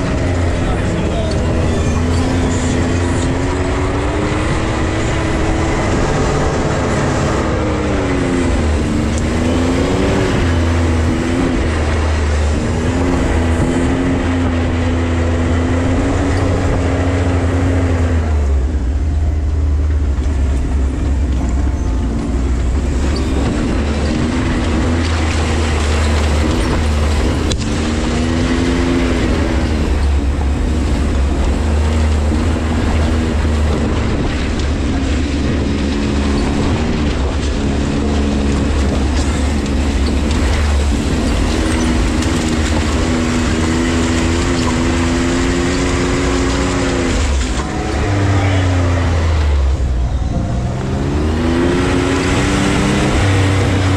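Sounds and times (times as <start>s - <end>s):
steady rushing noise: 0.0s - 53.9s
utility vehicle engine revving: 0.0s - 53.9s.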